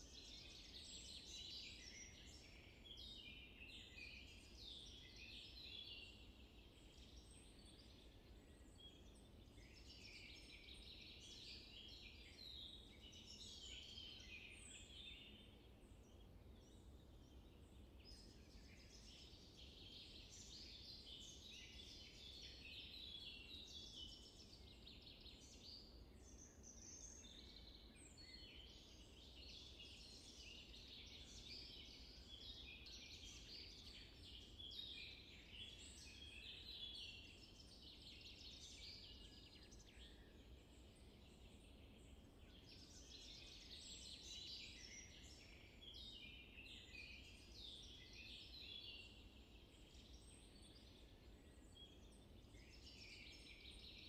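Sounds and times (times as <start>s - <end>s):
low steady hiss: 0.0s - 54.0s.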